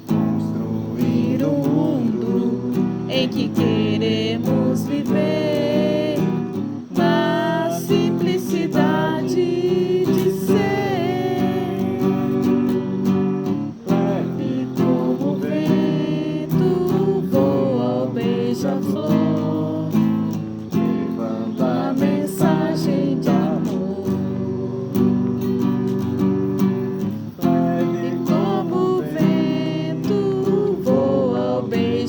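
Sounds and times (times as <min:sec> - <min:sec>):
acoustic guitar strumming chords: 0:00.0 - 0:32.0
person singing: 0:00.0 - 0:32.0.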